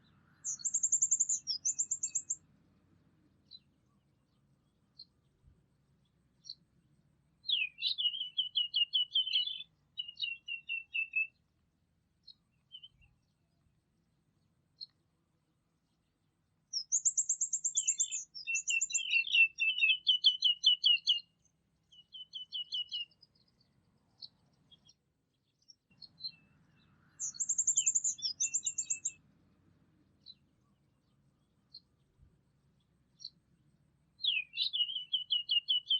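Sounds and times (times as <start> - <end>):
songbird chirping and trilling: 0.0 - 6.7, 7.3 - 11.6, 12.2 - 35.9.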